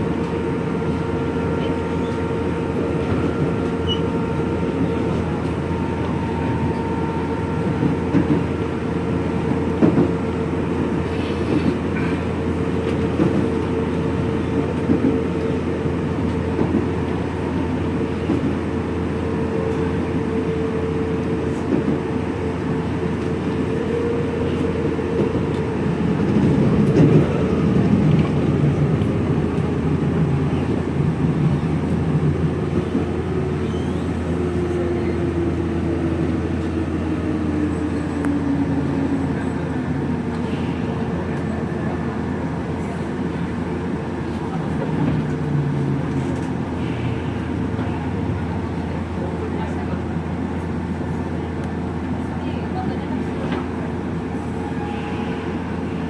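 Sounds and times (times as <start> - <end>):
train rolling rumble: 0.0 - 56.0.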